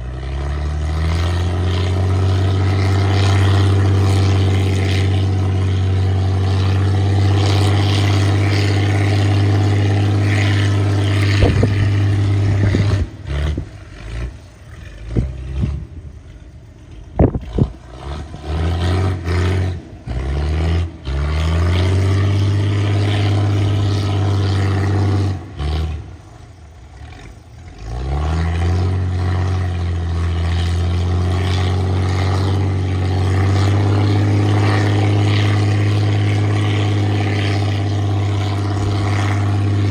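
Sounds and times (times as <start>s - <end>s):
boat engine running and revving: 0.0s - 39.9s.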